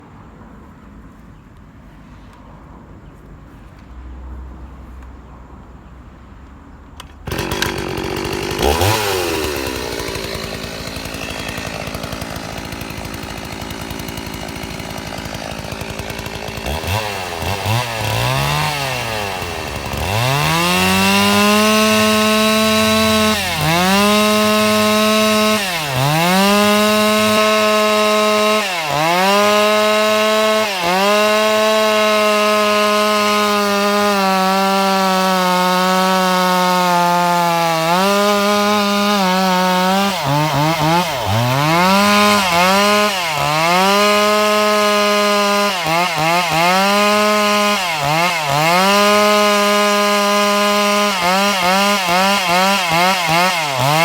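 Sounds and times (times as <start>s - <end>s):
chainsaw cutting wood: 7.0s - 54.0s
chainsaw revving: 7.2s - 54.0s.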